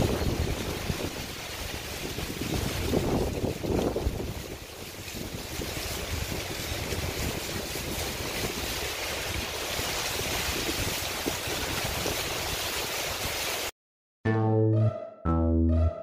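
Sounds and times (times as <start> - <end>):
wind rumbling on microphone: 0.0 - 13.4
heavy rain: 0.0 - 13.7.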